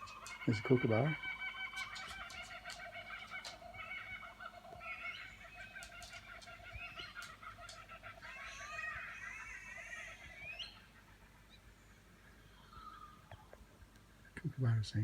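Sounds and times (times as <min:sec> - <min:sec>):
bird chirps: 0:00.0 - 0:14.4
kookaburra cackling: 0:00.0 - 0:14.4.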